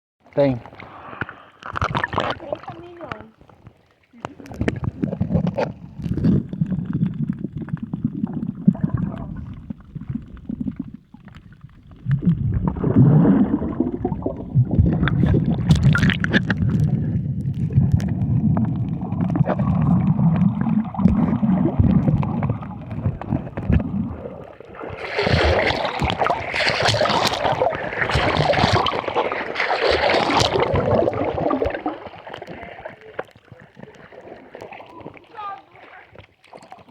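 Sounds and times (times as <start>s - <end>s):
water splashing along hull: 0.2s - 36.9s.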